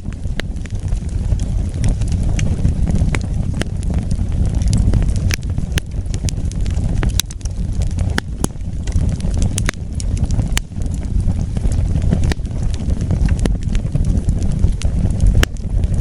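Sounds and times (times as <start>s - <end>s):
fire crackling and popping: 0.0s - 16.0s
fire flames rumbling: 0.0s - 16.0s.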